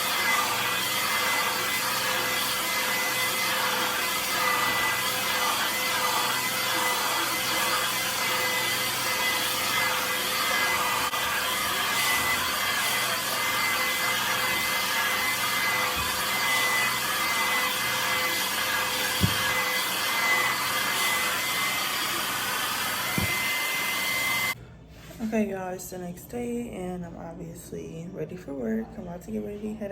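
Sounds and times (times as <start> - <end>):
hair dryer running: 0.0 - 24.6.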